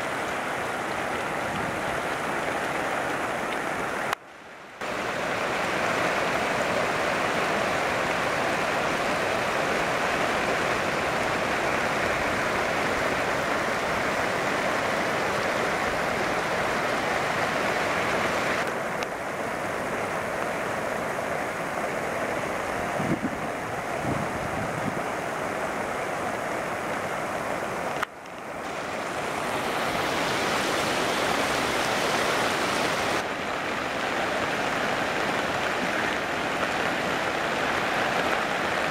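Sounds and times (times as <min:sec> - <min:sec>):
mountain torrent rushing: 0:00.0 - 0:38.9
waterfalls pouring: 0:00.0 - 0:38.9.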